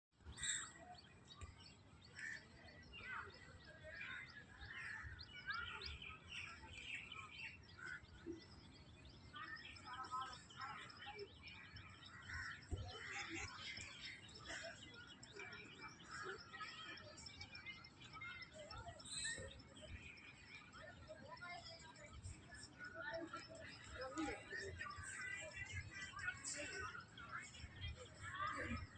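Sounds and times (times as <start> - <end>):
small birds chirping and twittering: 0.1 - 28.9.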